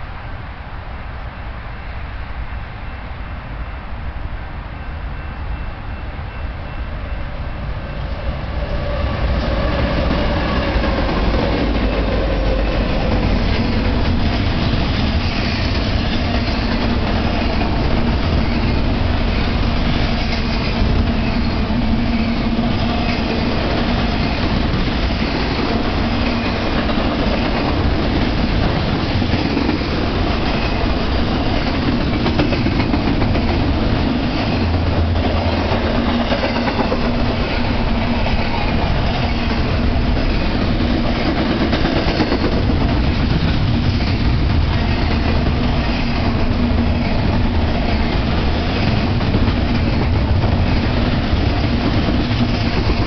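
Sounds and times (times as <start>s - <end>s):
freight train passing: 0.0s - 53.0s.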